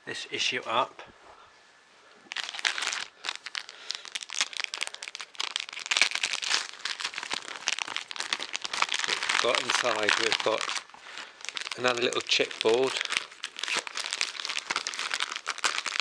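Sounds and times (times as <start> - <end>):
packaging tearing and crinkling: 2.3 - 16.0.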